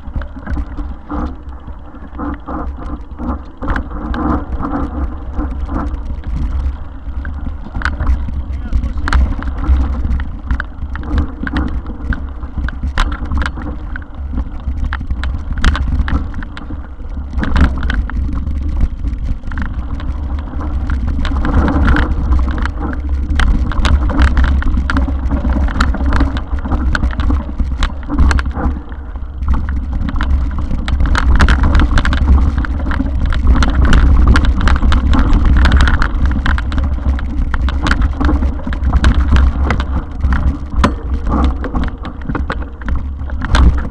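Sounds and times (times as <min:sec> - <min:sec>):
bike rattling and knocking over stones: 0:00.0 - 0:43.9
wind rumble on microphone: 0:00.0 - 0:43.9.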